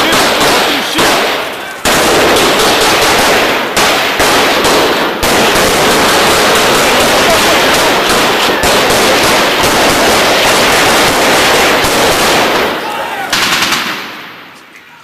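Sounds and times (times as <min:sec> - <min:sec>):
automatic gunfire: 0:00.0 - 0:14.4.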